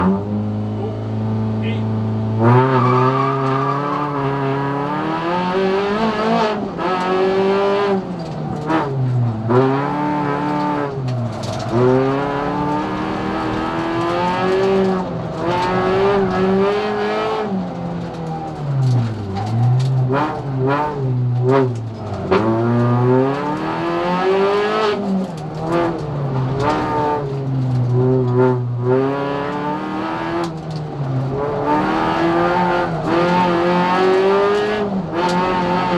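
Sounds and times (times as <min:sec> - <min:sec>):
race car engine revving: 0:00.0 - 0:35.9.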